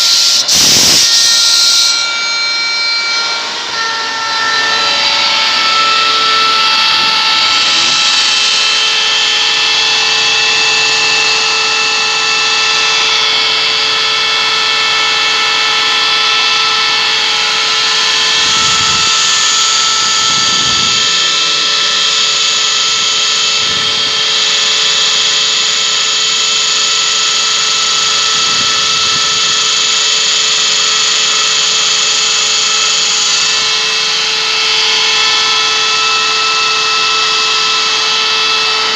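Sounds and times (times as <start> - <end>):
air compressor whining: 0.0 - 38.9.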